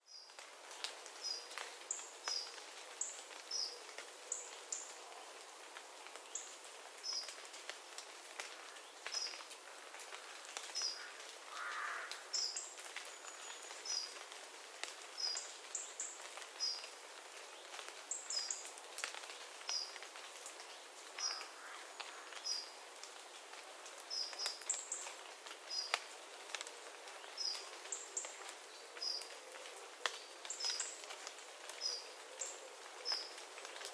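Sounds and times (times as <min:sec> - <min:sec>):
water dripping from trees: 0:00.0 - 0:33.9.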